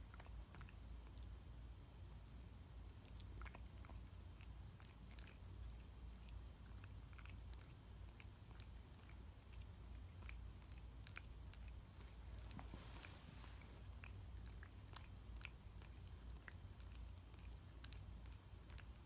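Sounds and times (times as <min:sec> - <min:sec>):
cat licking paw: 0:00.0 - 0:02.0, 0:02.8 - 0:19.0
low steady hum: 0:00.0 - 0:19.0.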